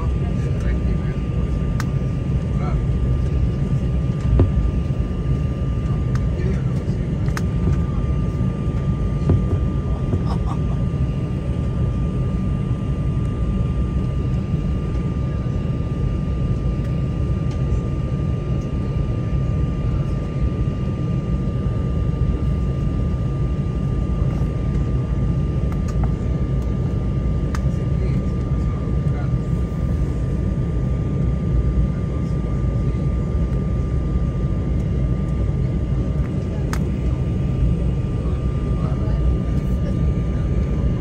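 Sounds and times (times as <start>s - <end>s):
jet engine high whine: 0.0s - 41.0s
jet engine low rumble: 0.0s - 41.0s.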